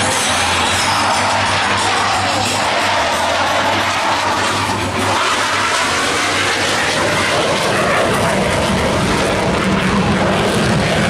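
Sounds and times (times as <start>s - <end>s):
loud jet engine noise: 0.0s - 11.0s.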